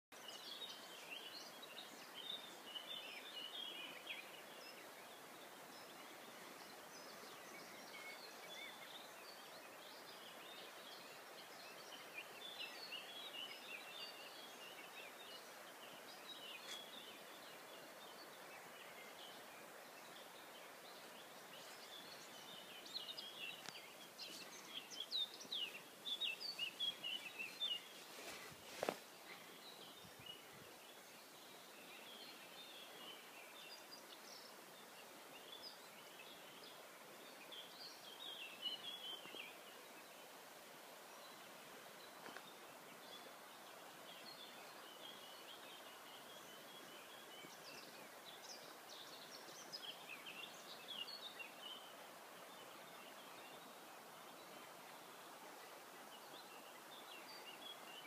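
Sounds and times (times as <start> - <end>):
faint outdoor hiss: 0.1 - 58.0
small birds chirping and singing: 0.1 - 58.0.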